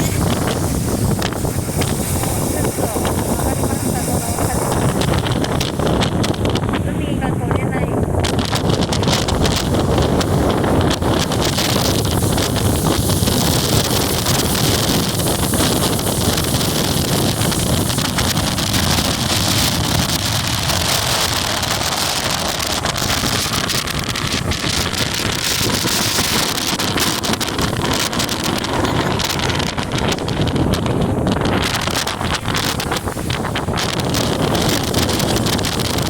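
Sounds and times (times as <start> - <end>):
strong wind buffeting microphone: 0.0 - 36.0.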